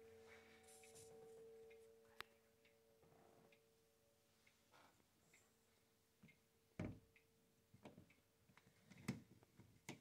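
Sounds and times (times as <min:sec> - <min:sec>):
clock ticking faintly: 0:00.0 - 0:10.0.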